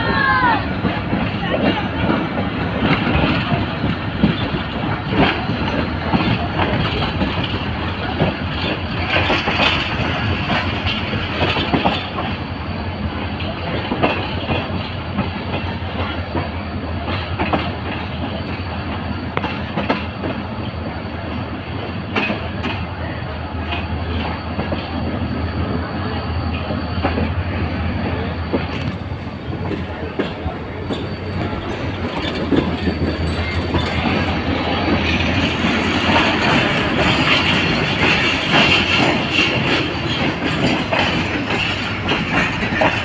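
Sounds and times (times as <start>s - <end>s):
wheels clacking over rail joints: 0.0s - 12.4s, 13.2s - 20.4s, 22.1s - 22.9s, 28.0s - 43.0s
train coach rumbling: 0.0s - 43.0s.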